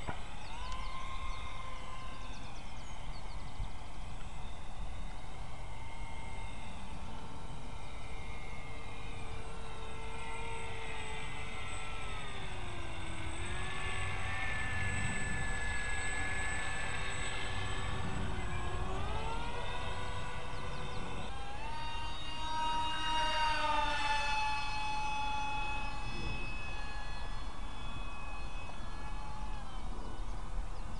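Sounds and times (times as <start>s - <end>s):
wind rumble on microphone: 0.0s - 23.1s, 24.2s - 30.9s
model plane propellers whining: 0.0s - 30.9s.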